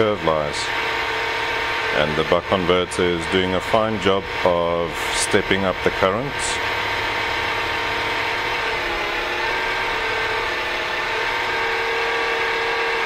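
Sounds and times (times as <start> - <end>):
electric motor whine: 0.0 - 13.0
propeller air noise: 0.0 - 13.0.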